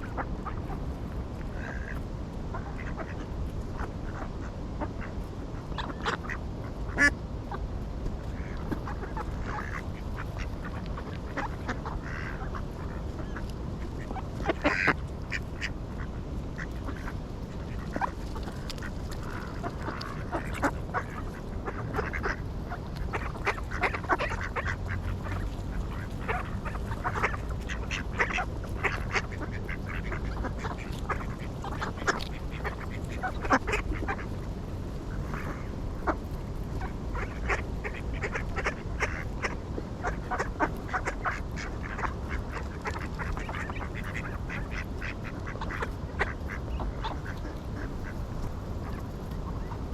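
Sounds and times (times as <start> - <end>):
ducks quacking: 0.0 - 7.6, 8.2 - 49.9.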